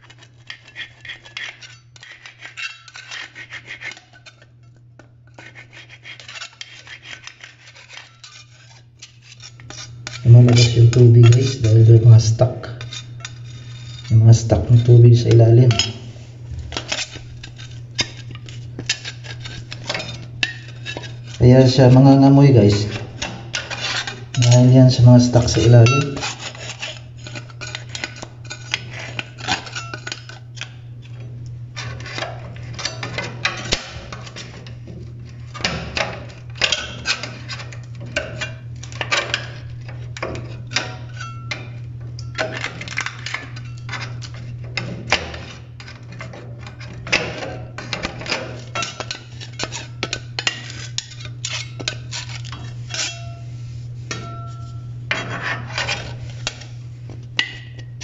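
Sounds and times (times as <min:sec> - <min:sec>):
metal scraper scraping sealant: 0:00.0 - 0:04.5, 0:05.3 - 0:58.0
steady low hum: 0:00.1 - 0:58.0.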